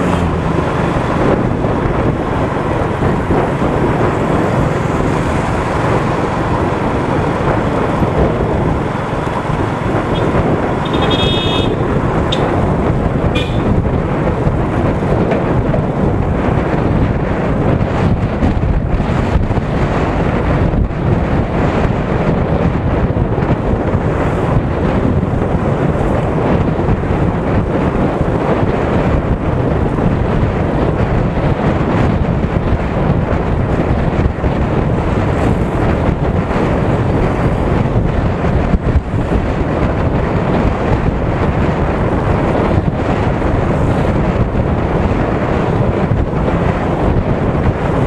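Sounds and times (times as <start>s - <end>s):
motorcycle engine: 0.0s - 48.0s
road noise: 0.0s - 48.0s
wind rushing on microphone: 0.0s - 48.0s.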